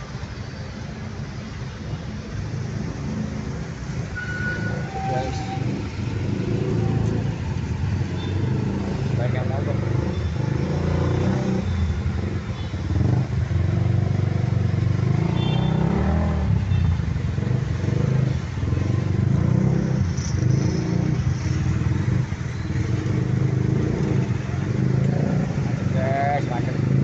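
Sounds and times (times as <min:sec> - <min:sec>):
traffic engines droning: 0:00.0 - 0:27.0.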